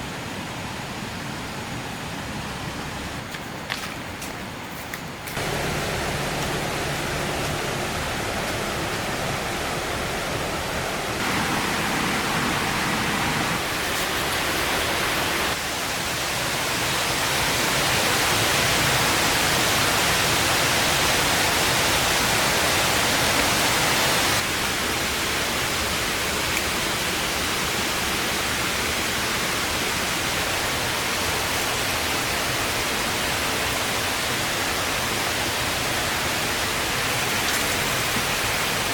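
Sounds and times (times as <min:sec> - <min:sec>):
flowing water rushing: 0:05.4 - 0:38.9.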